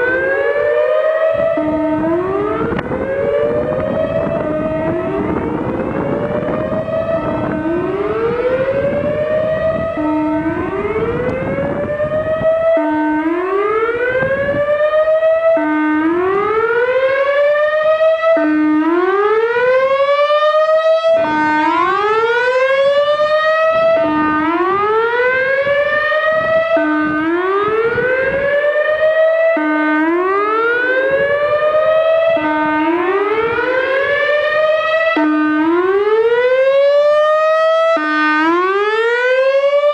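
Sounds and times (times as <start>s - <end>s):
warning siren whoops: 0.0s - 39.9s.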